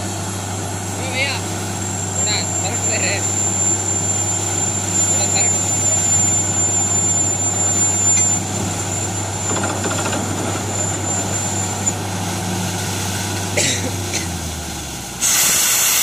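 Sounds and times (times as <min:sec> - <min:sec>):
thin high whine: 0:00.0 - 0:14.2
drilling rig engine running: 0:00.0 - 0:16.0.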